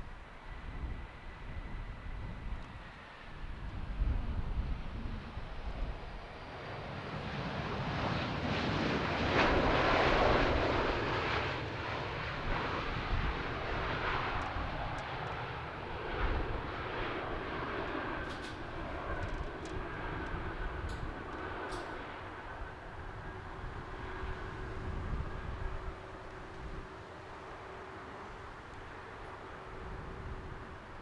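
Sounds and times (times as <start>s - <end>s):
wind rumble on microphone: 0.0s - 27.0s, 28.2s - 31.0s
jet engines passing by: 0.0s - 31.0s.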